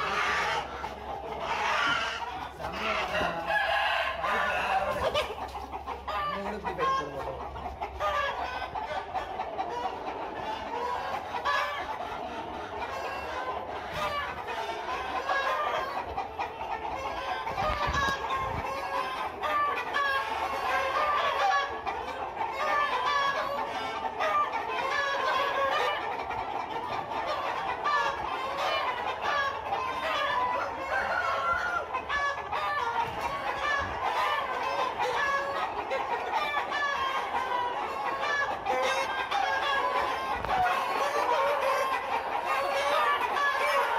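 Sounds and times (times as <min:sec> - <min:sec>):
chickens clucking and calling: 0:00.0 - 0:43.9.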